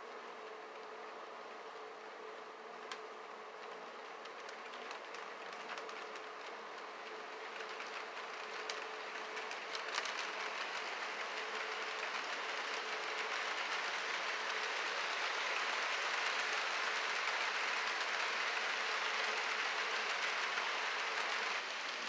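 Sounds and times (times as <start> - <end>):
model train wheels hissing on rails: 0.0 - 22.0.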